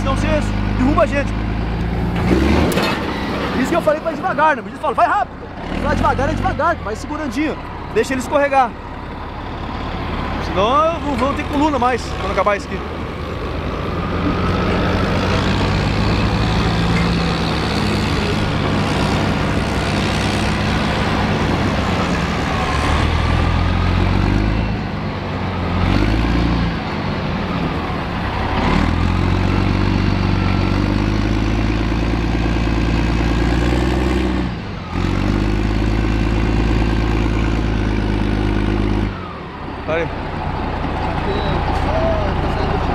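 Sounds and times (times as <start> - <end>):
tracked vehicle diesel engine: 0.0 - 42.9.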